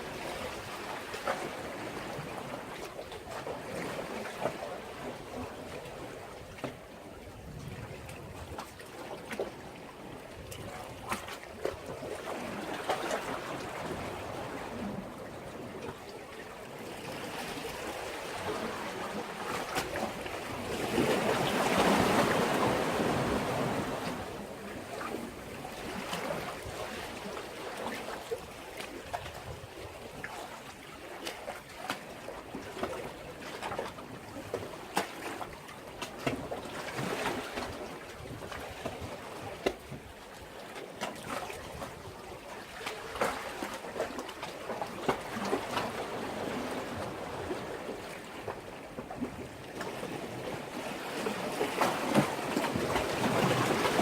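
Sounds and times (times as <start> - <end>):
waves washing against breakwater: 0.0 - 54.0.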